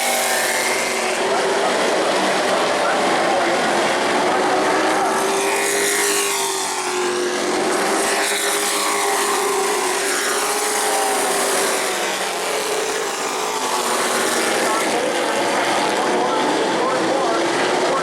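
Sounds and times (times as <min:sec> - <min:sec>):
race truck engine: 0:00.0 - 0:18.0
trucks passing by: 0:00.0 - 0:18.0.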